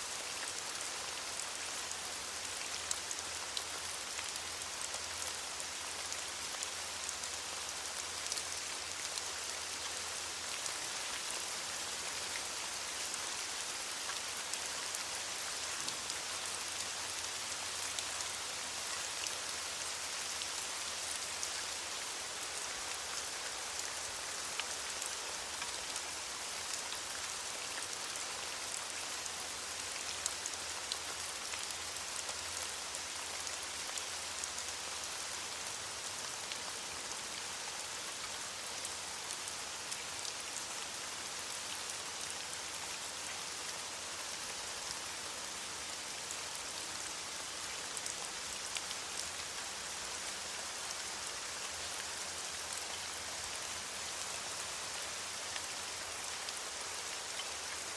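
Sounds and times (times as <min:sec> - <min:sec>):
rain pattering on leaves: 0:00.0 - 0:57.9.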